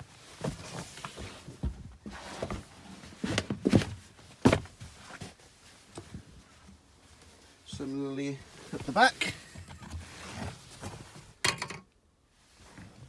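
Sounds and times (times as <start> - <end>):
floor mats rustling: 0.0 - 11.3.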